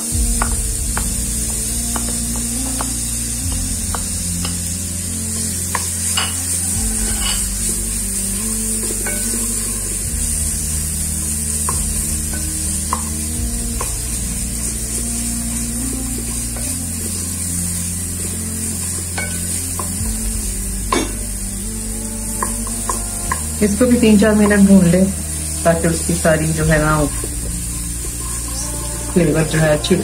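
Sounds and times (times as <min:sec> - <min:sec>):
onions sizzling in pot: 0:00.0 - 0:30.0.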